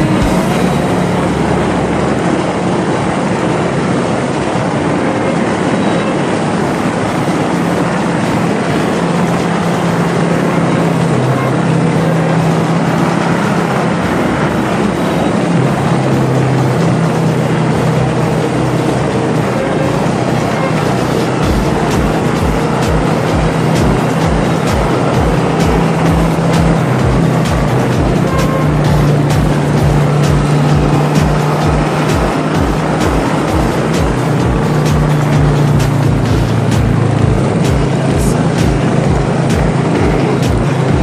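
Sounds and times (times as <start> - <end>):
motorbike engine running: 0.0 - 41.0
wind and road noise: 0.0 - 41.0.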